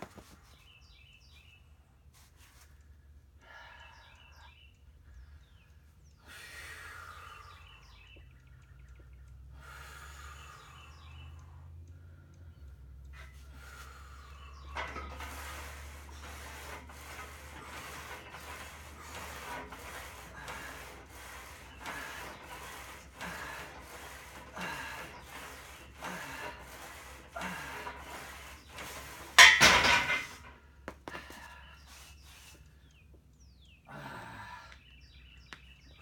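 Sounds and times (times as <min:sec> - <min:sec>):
hard rhythmic breathing: 0:02.8 - 0:33.0.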